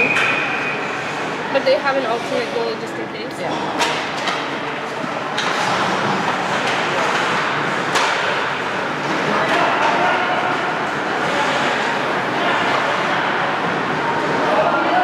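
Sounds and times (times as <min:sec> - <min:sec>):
arena crowd din: 0:00.0 - 0:15.0.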